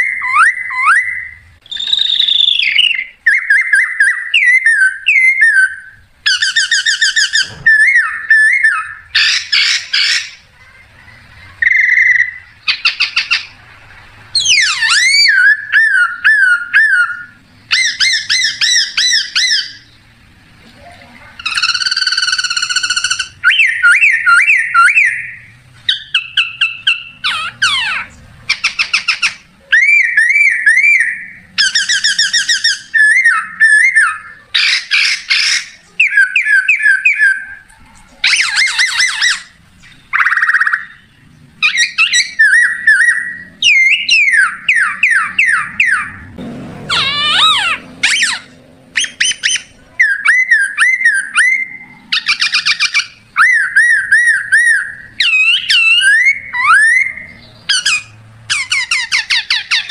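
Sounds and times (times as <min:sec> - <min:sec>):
leaf whistling bird calls: 0:00.0 - 0:10.5, 0:11.3 - 0:20.4, 0:21.4 - 0:59.9.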